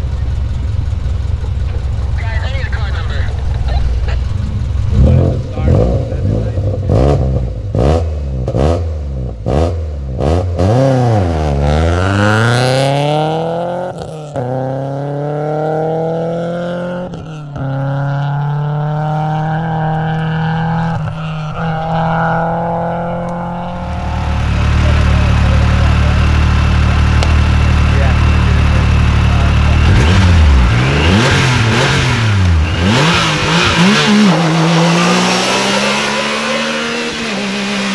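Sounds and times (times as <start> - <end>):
utility vehicle engine running low: 0.0 - 10.2, 11.1 - 37.9
rally car engine revving and accelerating: 1.6 - 37.9.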